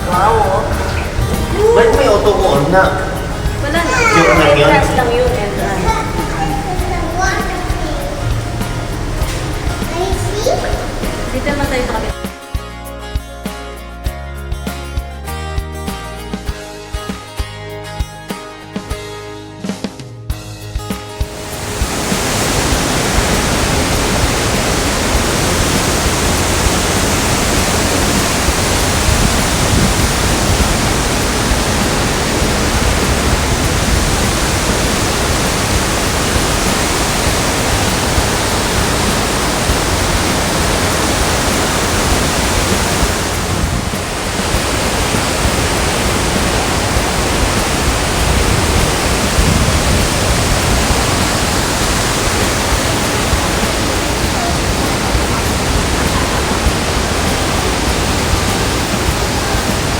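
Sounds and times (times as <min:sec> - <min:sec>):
waterfall rushing: 0:00.0 - 0:12.2, 0:21.2 - 0:59.9.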